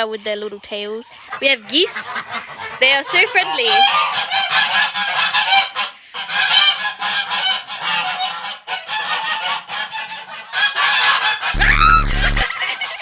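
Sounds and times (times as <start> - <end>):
geese honking: 1.2 - 12.9.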